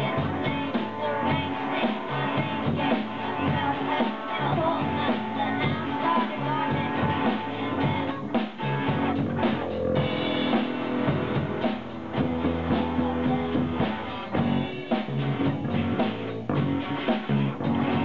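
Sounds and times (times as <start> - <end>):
rock band playing instrumental: 0.0 - 18.0.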